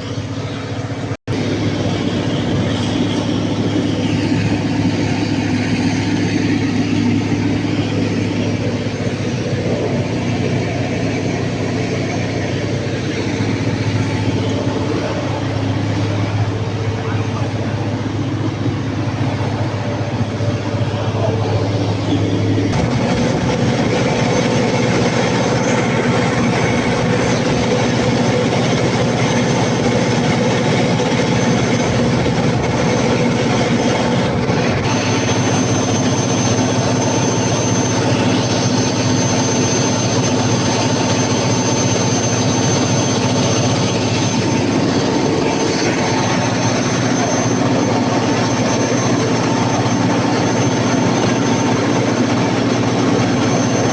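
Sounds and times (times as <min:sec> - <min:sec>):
diesel generator running: 0:00.0 - 0:53.9
thin high whine: 0:00.0 - 0:53.9.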